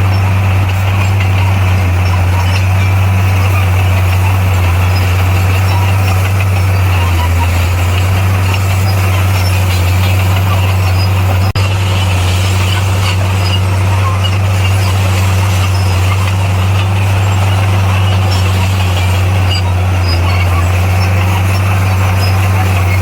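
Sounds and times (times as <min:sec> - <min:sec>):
bulldozer diesel engine droning: 0:00.0 - 0:23.0.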